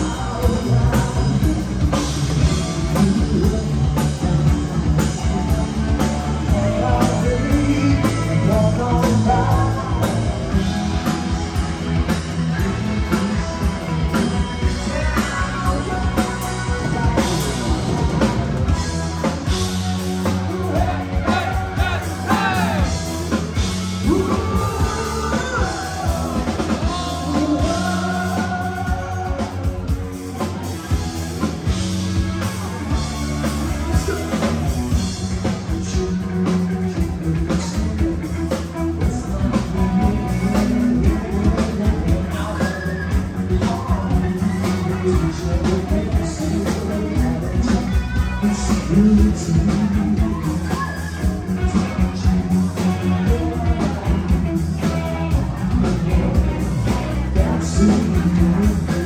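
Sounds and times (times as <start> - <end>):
person singing: 0.0 - 19.6, 20.2 - 59.0
rock band playing live: 0.0 - 59.0.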